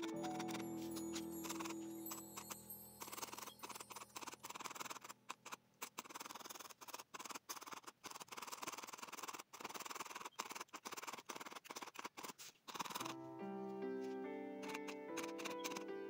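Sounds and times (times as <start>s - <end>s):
felting needle jabbing wool: 0.0s - 13.3s, 14.0s - 16.0s.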